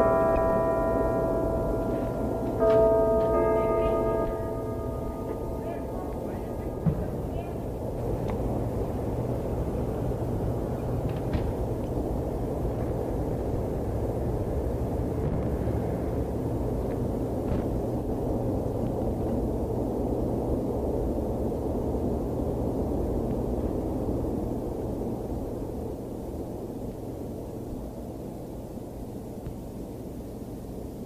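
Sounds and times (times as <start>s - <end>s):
steam locomotive rumble: 0.0s - 28.4s
low hum: 0.0s - 31.0s.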